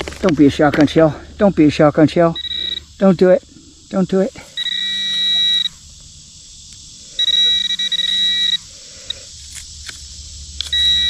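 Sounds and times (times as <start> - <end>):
pinpointer high buzzing tone: 0.0 - 11.0.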